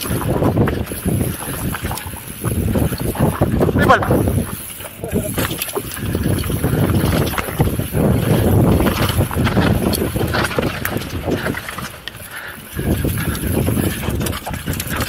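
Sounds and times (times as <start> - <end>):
bike rattling over bumps: 0.0 - 15.0
bike tyres on dirt: 0.0 - 15.0
wind on microphone: 0.0 - 15.0.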